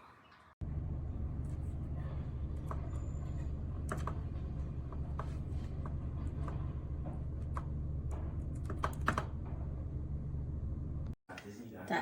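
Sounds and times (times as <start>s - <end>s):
steady low hum: 0.6s - 11.2s.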